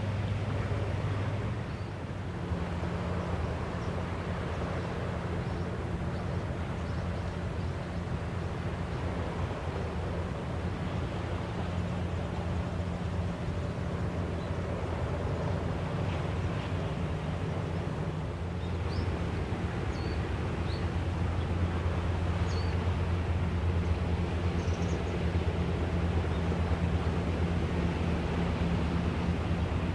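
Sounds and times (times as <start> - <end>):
motorboat engine drone: 0.0 - 29.9.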